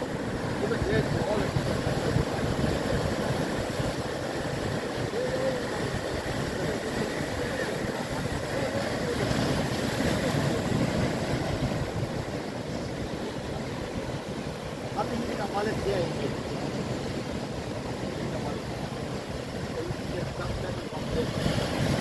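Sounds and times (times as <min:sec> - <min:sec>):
surf washing along shore: 0:00.0 - 0:22.0
wind rumbling on microphone: 0:00.0 - 0:22.0.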